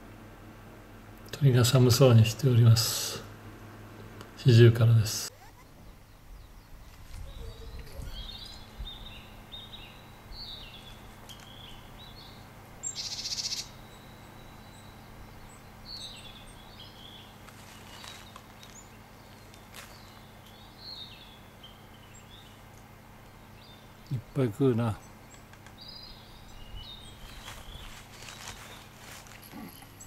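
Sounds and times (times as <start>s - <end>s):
faint low hum: 0.0s - 30.0s
small birds chirping: 3.6s - 30.0s.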